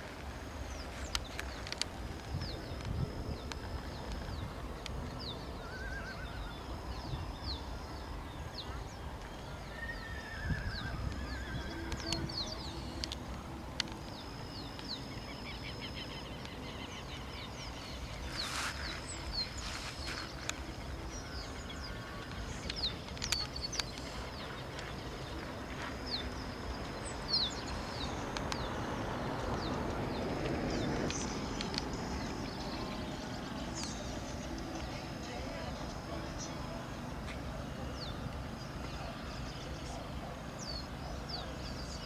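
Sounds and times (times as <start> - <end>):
broad rushing noise: 0.0 - 42.0
outdoor background noise: 0.0 - 42.0
small birds chirping: 0.0 - 42.0.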